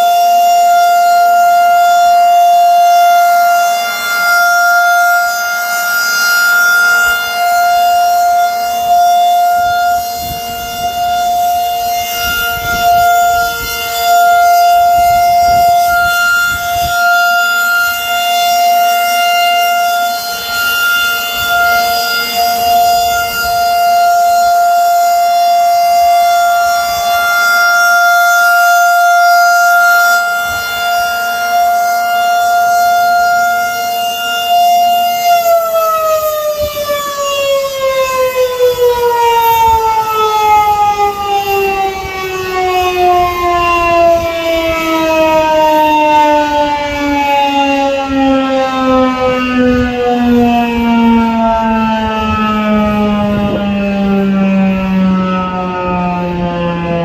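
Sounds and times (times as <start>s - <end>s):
rotating tornado siren: 0.0s - 57.0s.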